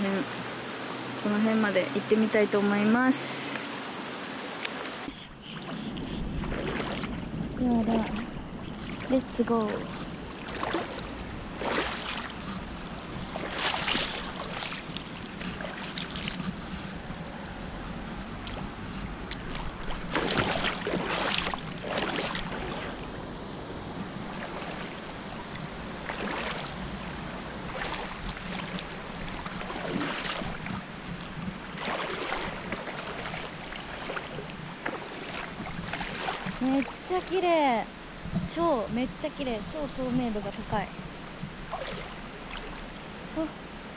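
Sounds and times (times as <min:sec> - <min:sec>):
stream rushing: 0:00.0 - 0:05.1, 0:05.8 - 0:43.9
water sloshing and splashing: 0:00.8 - 0:43.5.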